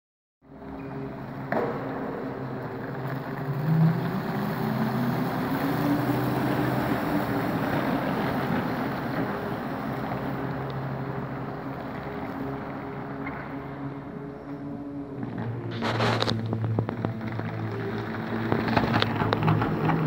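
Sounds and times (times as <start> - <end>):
ice resurfacer motor hum: 0.6 - 20.0
rising motor whine: 0.6 - 20.0.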